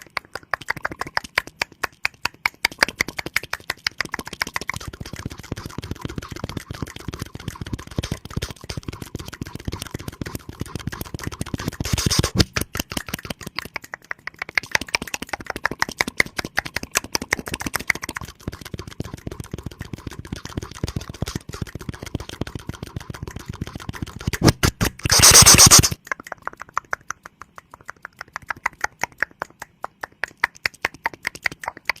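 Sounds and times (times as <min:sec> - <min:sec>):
wet mouth clicks and smacks: 0:00.0 - 0:32.0.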